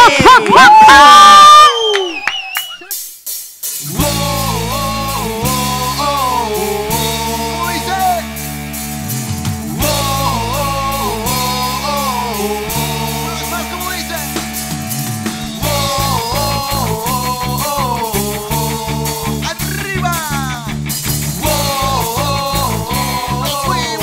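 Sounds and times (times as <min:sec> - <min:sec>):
live ska rock band: 0:02.7 - 0:24.0.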